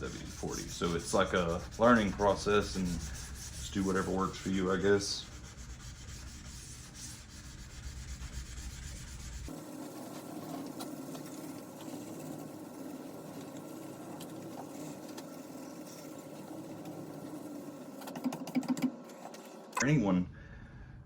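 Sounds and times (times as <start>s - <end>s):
sandpaper rubbing on steel: 0.0s - 18.1s.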